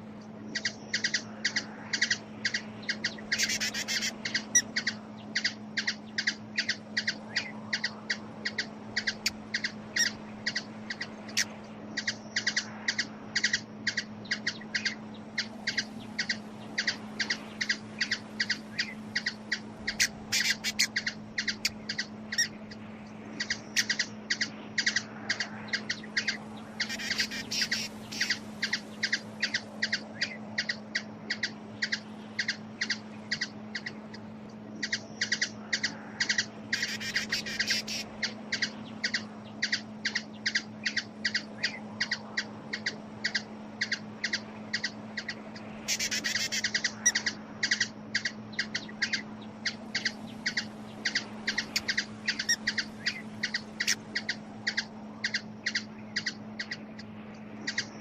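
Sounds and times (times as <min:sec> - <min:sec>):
low hum: 0:00.0 - 0:58.0
small bird chipping: 0:00.5 - 0:22.6, 0:23.4 - 0:58.0.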